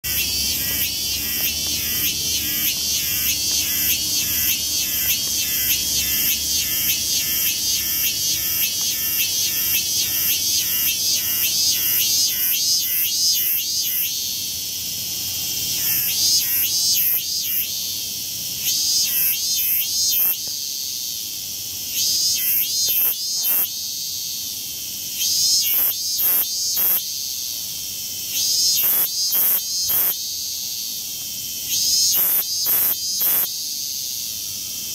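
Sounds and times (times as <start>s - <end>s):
cicada pulsing: 0.0s - 34.9s
cicadas calling: 0.0s - 34.9s.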